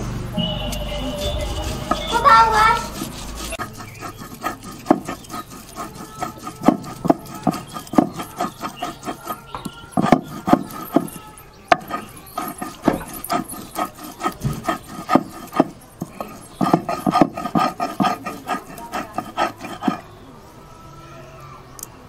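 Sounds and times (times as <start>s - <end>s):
stone roller grinding paste: 0.6s - 20.1s.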